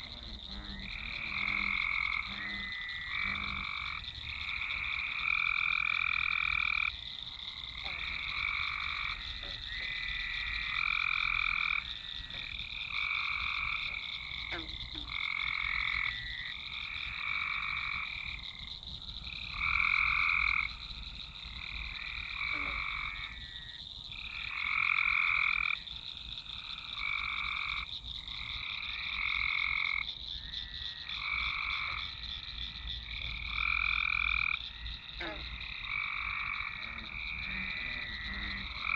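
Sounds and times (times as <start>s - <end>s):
frogs calling: 0.0s - 38.9s.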